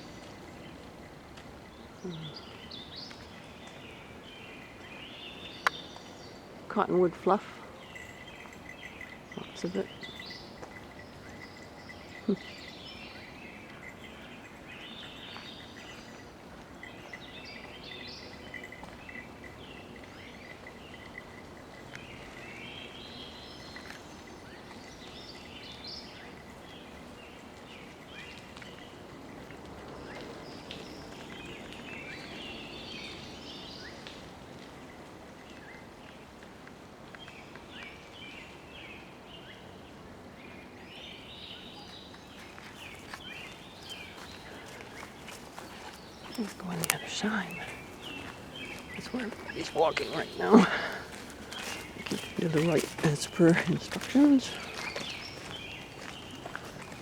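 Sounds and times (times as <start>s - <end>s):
songbirds chirping and trilling: 0.0s - 36.4s, 37.0s - 57.0s.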